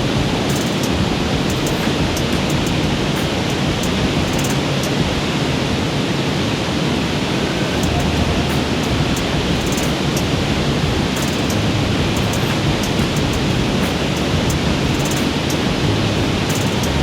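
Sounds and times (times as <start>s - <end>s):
waterfall and creek rushing: 0.0s - 17.0s.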